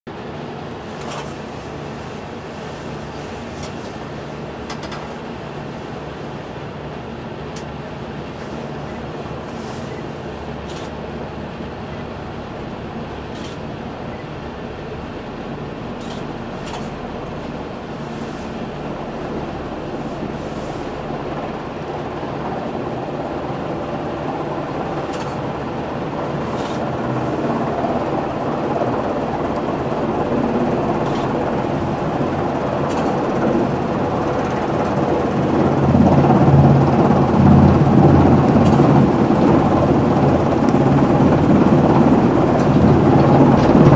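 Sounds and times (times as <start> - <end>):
helicopter engine and rotor: 0.3 - 43.9.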